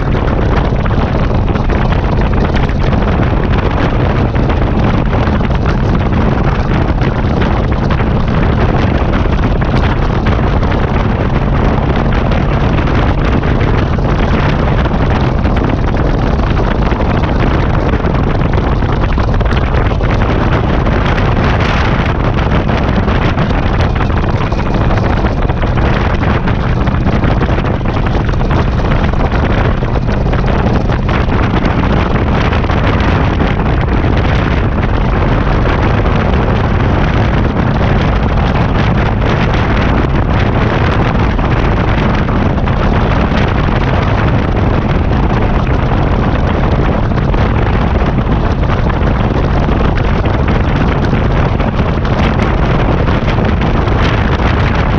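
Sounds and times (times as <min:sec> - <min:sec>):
motorcycle engine drone: 0:00.0 - 0:54.9
wind rushing over microphone: 0:00.0 - 0:54.9.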